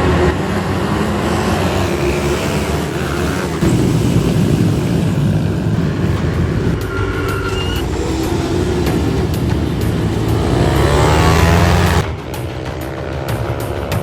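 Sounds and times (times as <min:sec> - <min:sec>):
mini bike engine revving: 0:00.0 - 0:14.0.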